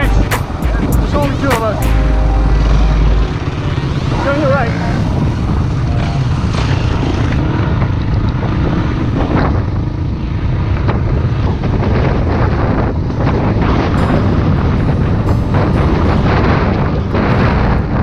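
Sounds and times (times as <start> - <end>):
wind buffeting microphone: 3.3 - 18.0.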